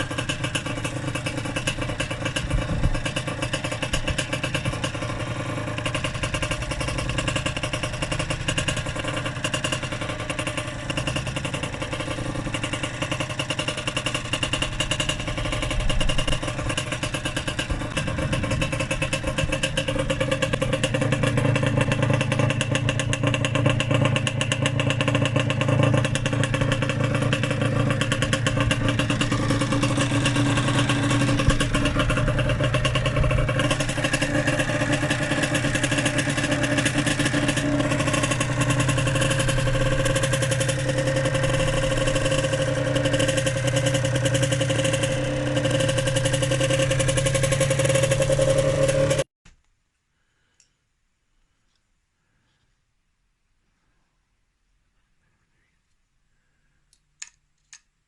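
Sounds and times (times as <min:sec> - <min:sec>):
two-stroke engine running: 0:00.0 - 0:49.3.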